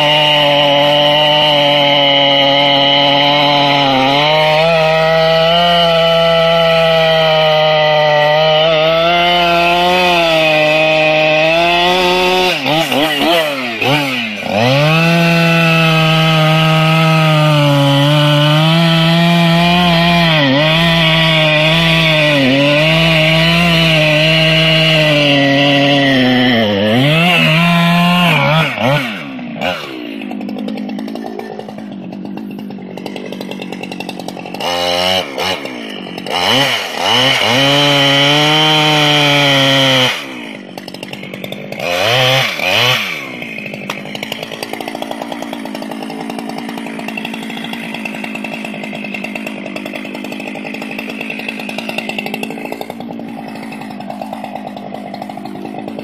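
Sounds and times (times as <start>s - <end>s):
chainsaw cutting tree: 0.0s - 56.0s.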